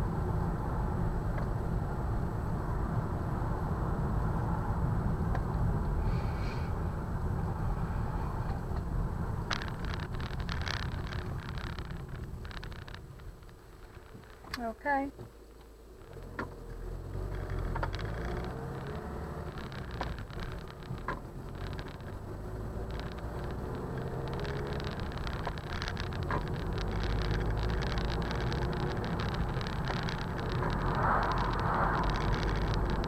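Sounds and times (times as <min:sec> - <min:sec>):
car engine and tyre noise: 0:00.0 - 0:33.0.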